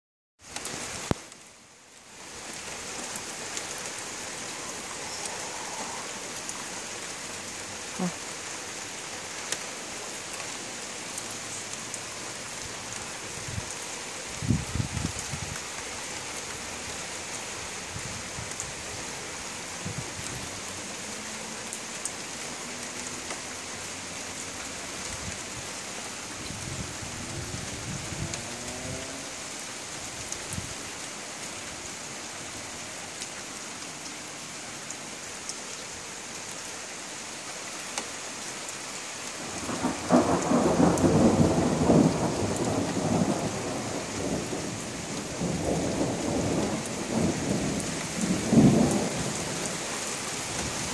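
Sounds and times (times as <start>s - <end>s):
steady rain falling: 0.4s - 50.9s.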